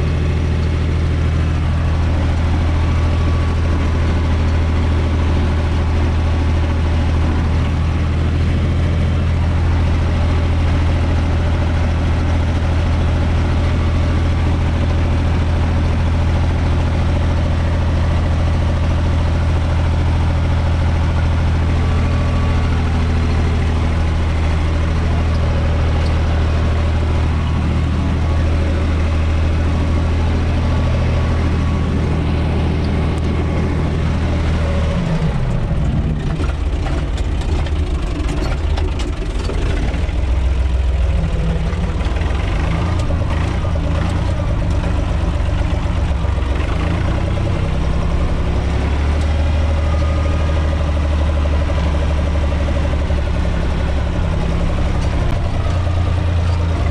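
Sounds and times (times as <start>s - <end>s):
tractor diesel engine droning: 0.0s - 56.9s.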